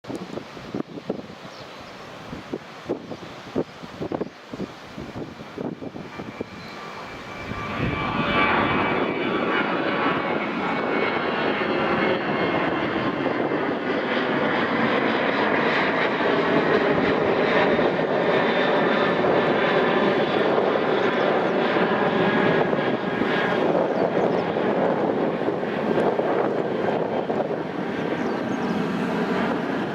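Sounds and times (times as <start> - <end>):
jet engines at takeoff thrust: 0.0 - 29.9.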